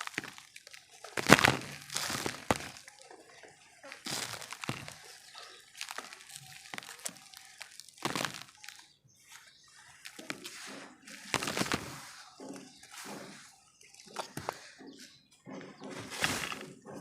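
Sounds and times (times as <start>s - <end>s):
dirt lumps crumbling and crunching: 0.0s - 17.0s.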